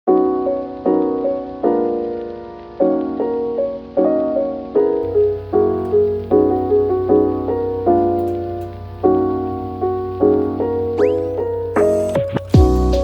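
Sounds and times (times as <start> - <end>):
soft piano chords: 0.1 - 13.0.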